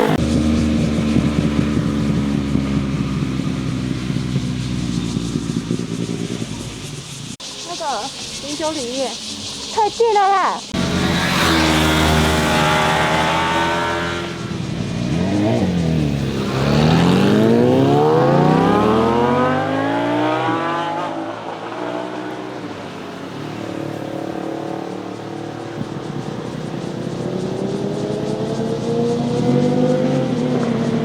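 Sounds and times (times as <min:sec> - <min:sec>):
motorcycle engines accelerating: 0:00.0 - 0:31.0.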